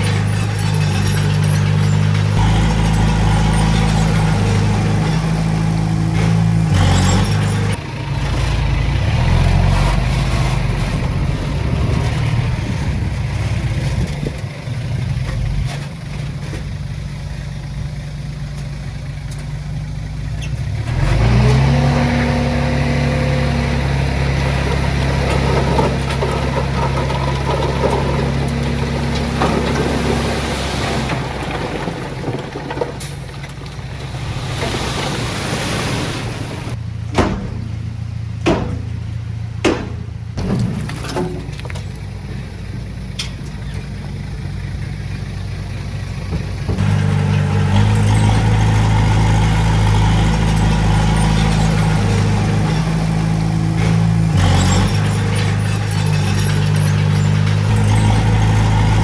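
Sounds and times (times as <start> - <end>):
diesel engine working under load: 0.0 - 59.0.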